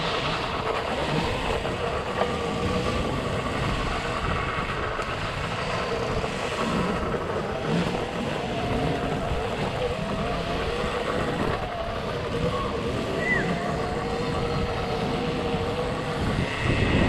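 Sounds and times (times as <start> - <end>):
dirt bike engine whine and rumble: 0.0 - 17.0.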